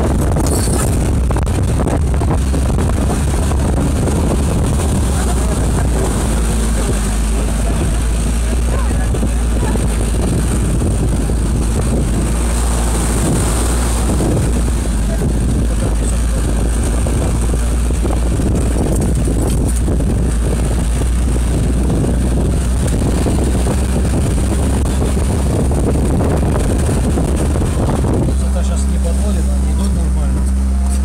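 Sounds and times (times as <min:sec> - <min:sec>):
car engine running under load: 0:00.0 - 0:31.0
tyres rumbling on sand: 0:00.0 - 0:31.0.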